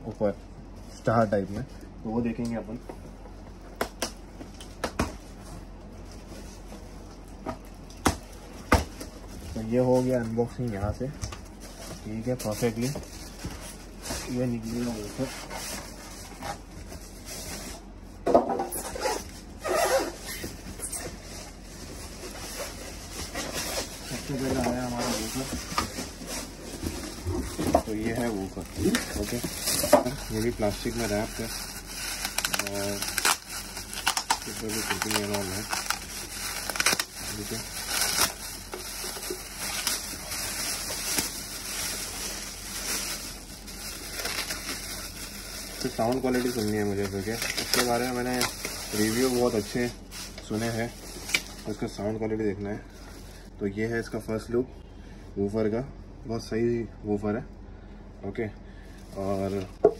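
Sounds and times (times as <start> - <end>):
plastic wrapping crinkling: 3.5 - 18.2, 18.8 - 53.6, 58.9 - 59.9.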